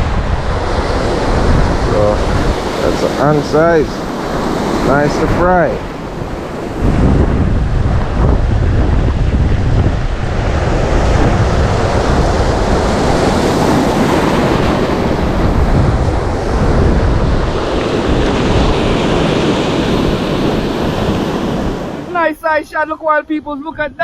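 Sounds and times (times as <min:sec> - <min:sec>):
surf washing: 0:00.0 - 0:24.0
wind buffeting microphone: 0:00.0 - 0:24.0.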